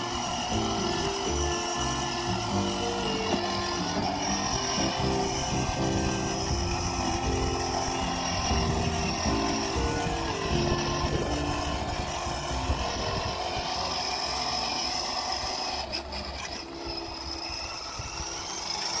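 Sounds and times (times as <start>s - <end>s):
toy car electric motor whirring: 0.0s - 19.0s.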